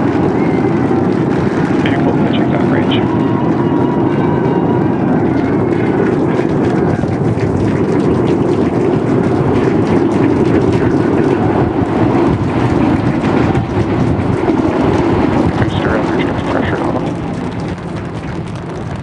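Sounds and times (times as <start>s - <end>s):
rocket engines rumbling: 0.0s - 19.0s.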